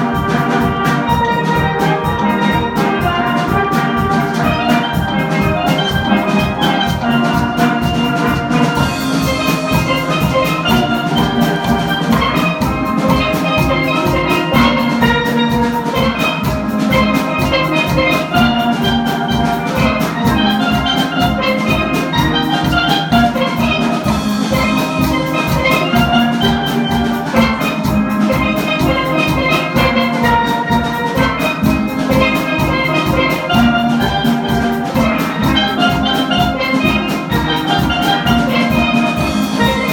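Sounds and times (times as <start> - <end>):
drums steady beat: 0.0 - 39.9
steelpan melody: 0.0 - 39.9.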